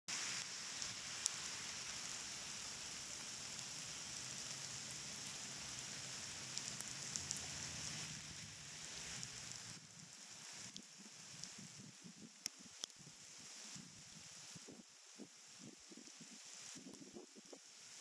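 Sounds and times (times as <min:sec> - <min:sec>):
rain falling on wet street: 0:00.1 - 0:18.0.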